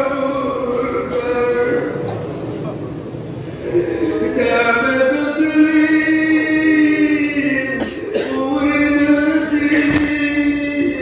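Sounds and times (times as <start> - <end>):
man chanting over loudspeakers: 0.0 - 11.0.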